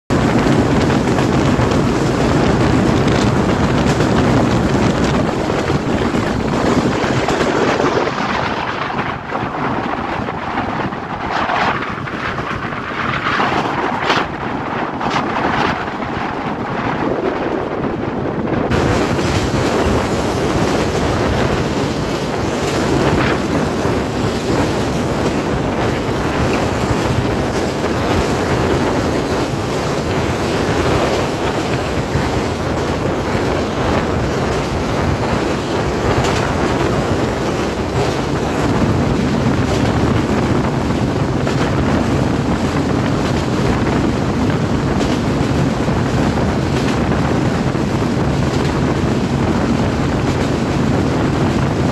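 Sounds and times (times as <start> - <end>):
train wheels on rails: 0.0 - 51.9
wind buffeting microphone: 0.1 - 51.9.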